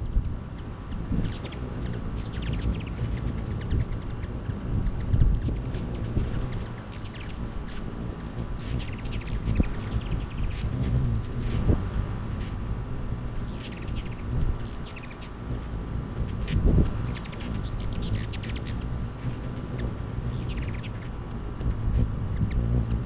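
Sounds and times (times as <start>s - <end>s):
faint steady hum: 0.0s - 23.0s
hummingbirds chittering: 0.0s - 23.0s
low background rumble: 0.0s - 23.0s.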